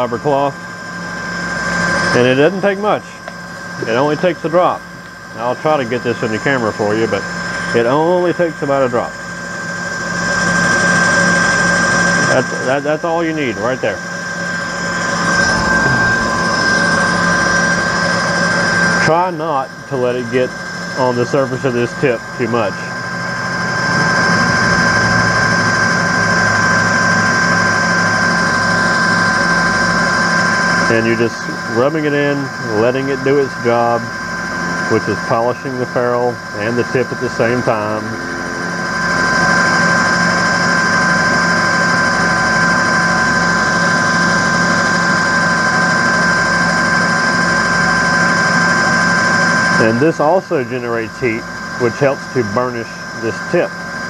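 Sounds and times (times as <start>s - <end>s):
lathe motor whine: 0.0s - 54.0s.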